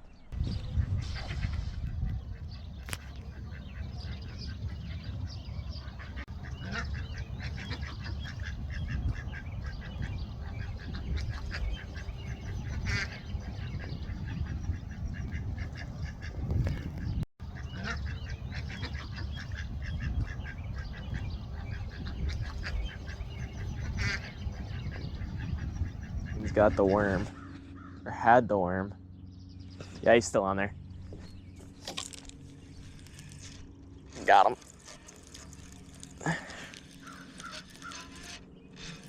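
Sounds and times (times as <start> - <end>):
steady low rumble: 0.0 - 38.8
waterfowl calling: 0.8 - 39.0.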